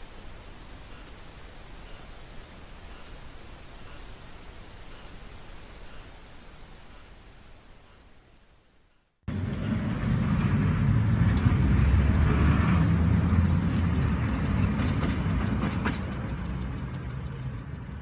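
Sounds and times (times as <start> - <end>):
vehicle rumble and road noise: 0.0 - 18.0.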